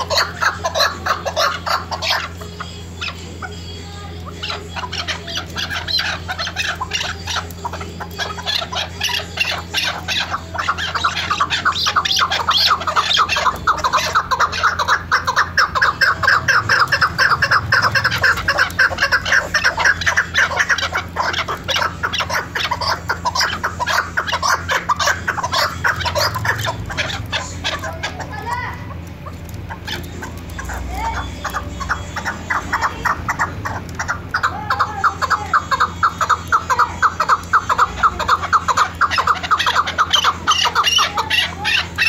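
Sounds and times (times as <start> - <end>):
partridges clucking calls: 0.0 - 42.0.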